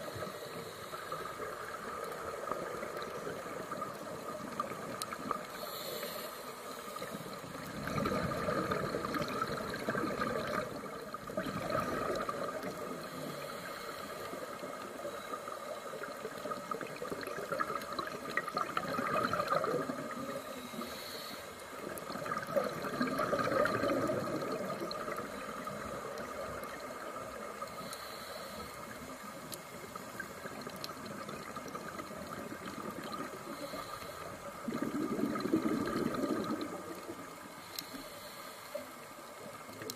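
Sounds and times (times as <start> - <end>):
regulator bubbles underwater: 0.0 - 6.0, 6.6 - 39.9
steady underwater hiss: 0.0 - 39.9.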